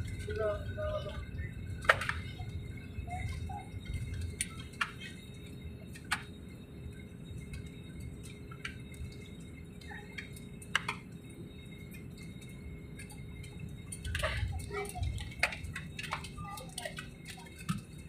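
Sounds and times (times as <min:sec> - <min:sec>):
airplane cabin rumble: 0:00.0 - 0:18.0
faint constant hum: 0:00.0 - 0:18.0.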